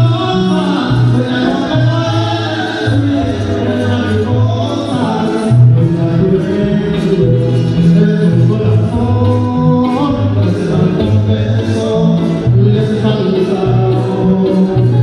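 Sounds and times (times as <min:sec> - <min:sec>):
strummed guitars: 0:00.0 - 0:15.0.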